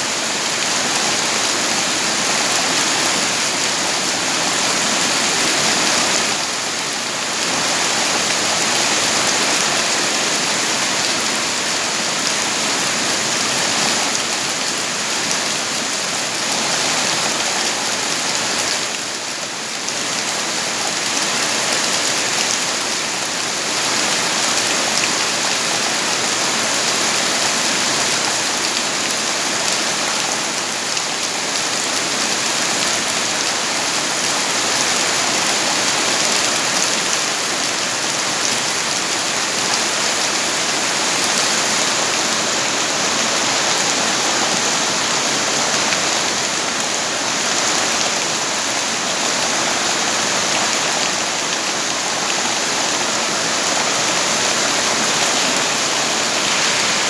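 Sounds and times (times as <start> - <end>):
heavy rain pattering: 0.1 - 57.0.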